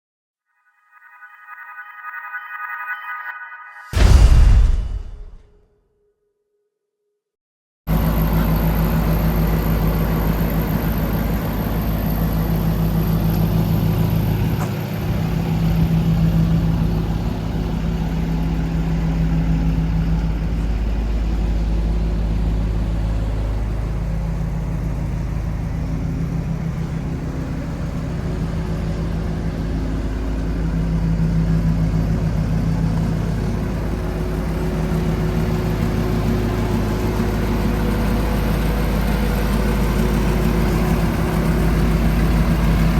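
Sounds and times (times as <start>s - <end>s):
diesel engine idling: 7.9s - 42.9s.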